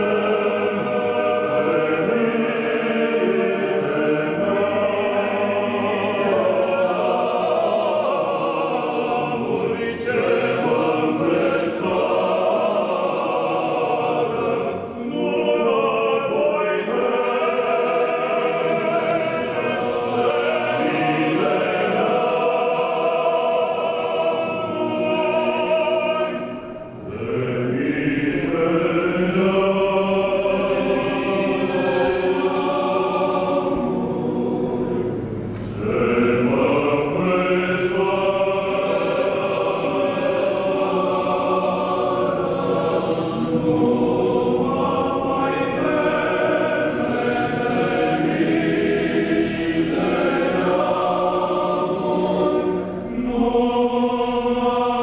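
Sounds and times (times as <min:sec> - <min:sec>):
choir singing chant: 0:00.0 - 0:55.0.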